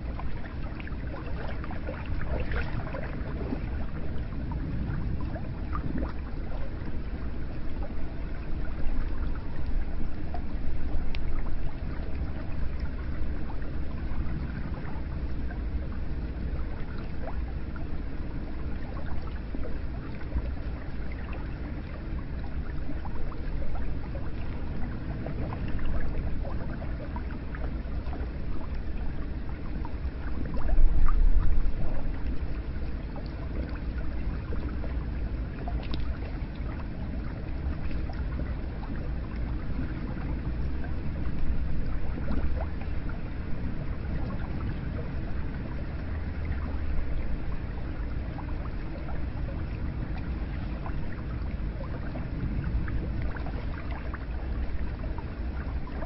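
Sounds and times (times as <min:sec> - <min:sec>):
deep rumble: 0:00.0 - 0:56.0
small drips and ticks: 0:00.0 - 0:56.0
water flowing and splashing: 0:00.0 - 0:56.0.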